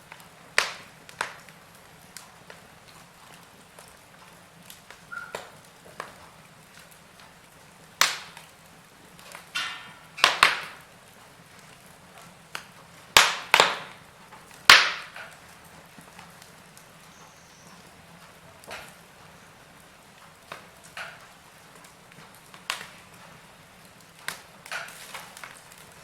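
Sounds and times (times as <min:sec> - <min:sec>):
faint steady hiss: 0:00.0 - 0:26.0
wood fire crackling: 0:00.0 - 0:26.0.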